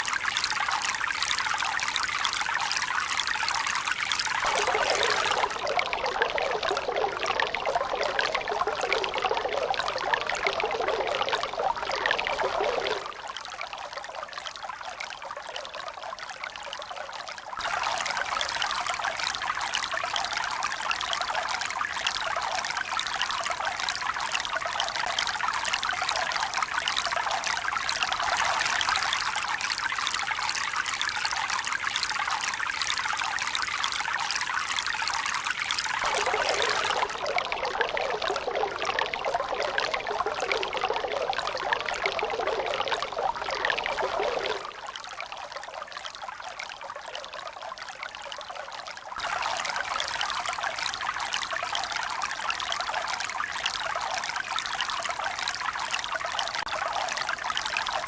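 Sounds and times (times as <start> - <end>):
running water trickling and pouring: 0.0 - 58.0.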